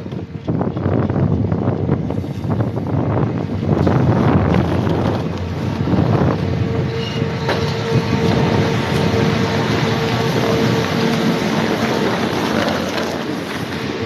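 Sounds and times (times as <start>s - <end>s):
chairlift machinery rumbling: 0.0s - 14.0s
wind on microphone: 0.0s - 14.0s.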